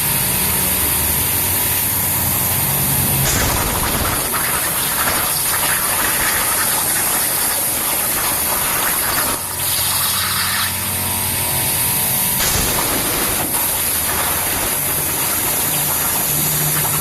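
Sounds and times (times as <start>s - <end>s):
cutting machine hissing: 0.0s - 17.0s.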